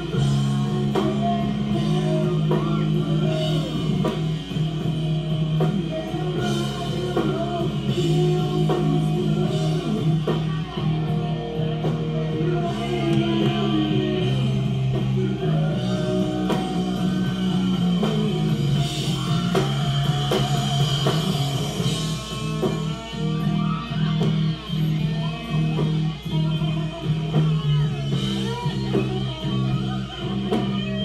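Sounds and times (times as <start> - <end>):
drums: 0.0 - 31.0
electric guitar: 0.0 - 31.0
person singing: 0.0 - 31.0.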